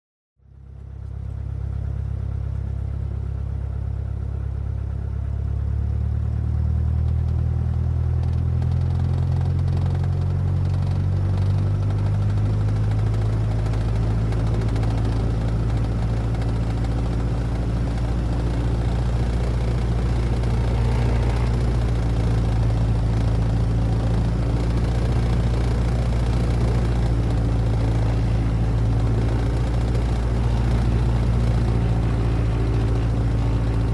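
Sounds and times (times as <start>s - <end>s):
propeller engine drone from cabin: 0.4s - 33.9s.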